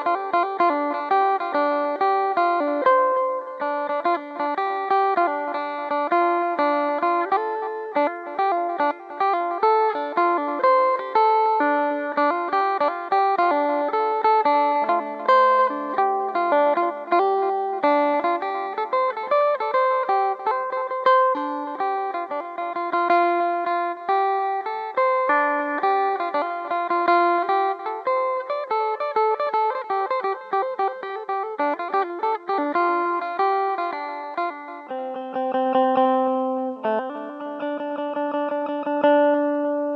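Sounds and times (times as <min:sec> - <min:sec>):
plucked lute melody: 0:00.0 - 0:39.9.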